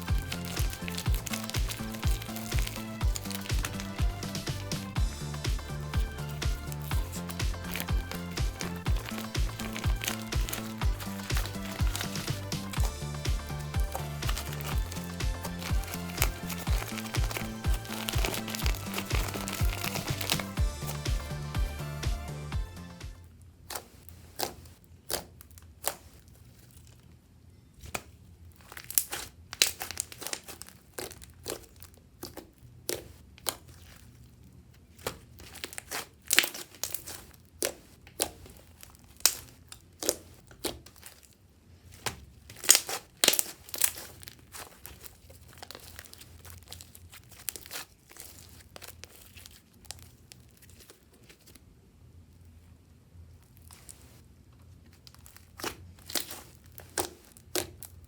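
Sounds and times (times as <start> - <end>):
plastic bag crinkling with slime: 0.0 - 58.0.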